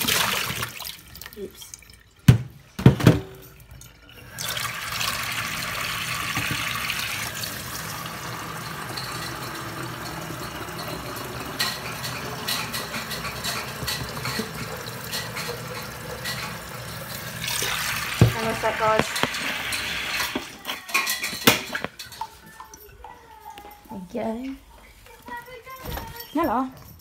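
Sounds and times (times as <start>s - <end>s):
water running from a tap: 0.0s - 23.2s.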